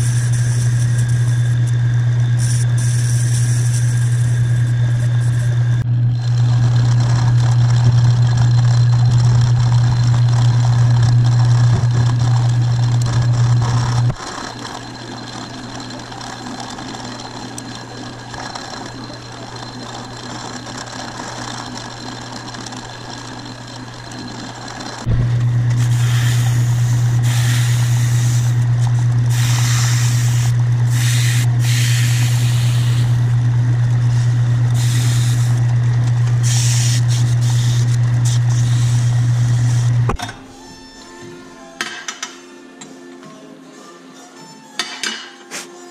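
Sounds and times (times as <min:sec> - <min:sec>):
metal lathe humming: 0:00.0 - 0:43.2.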